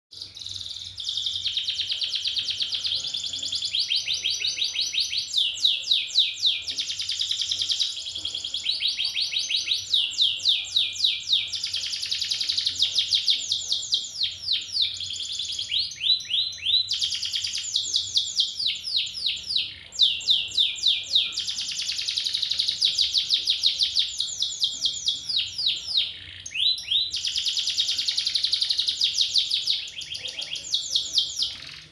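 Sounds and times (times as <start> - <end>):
canary singing trills: 0.1 - 31.9.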